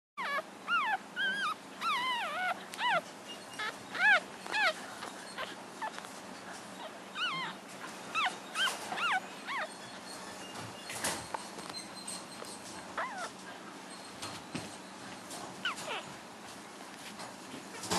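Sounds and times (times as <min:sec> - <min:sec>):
puppies whimpering and squeaking: 0:00.2 - 0:17.9.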